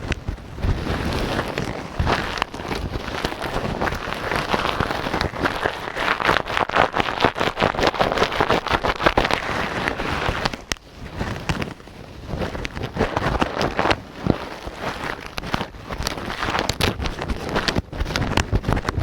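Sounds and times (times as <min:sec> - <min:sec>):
gloved hands rustling on microphone: 0:00.0 - 0:19.0.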